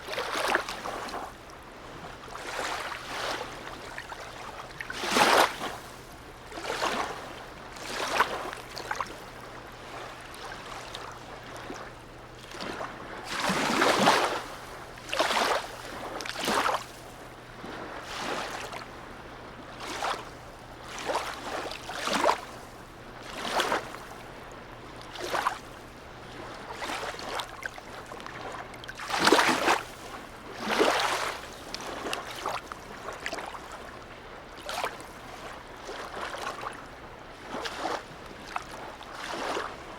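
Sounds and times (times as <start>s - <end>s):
water lapping against quayside: 0.0s - 39.9s.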